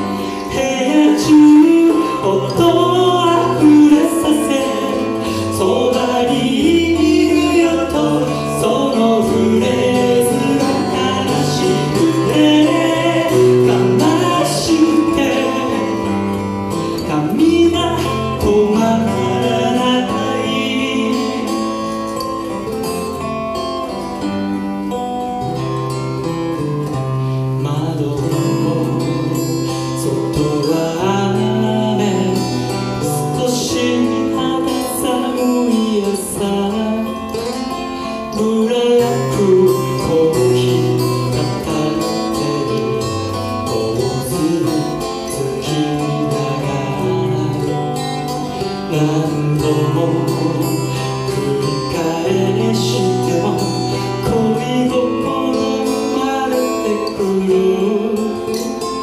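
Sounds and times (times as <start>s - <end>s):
person singing: 0.0s - 23.8s, 27.5s - 59.0s
acoustic guitars: 0.0s - 59.0s.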